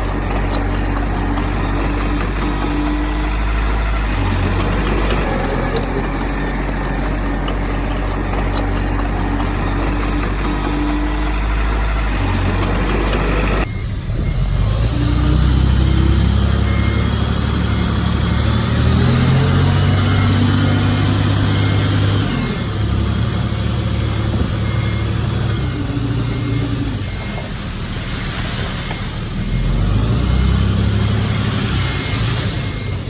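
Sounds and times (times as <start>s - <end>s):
faint reversing beeper: 0.0s - 33.0s
heavy diesel machinery running: 0.0s - 33.0s.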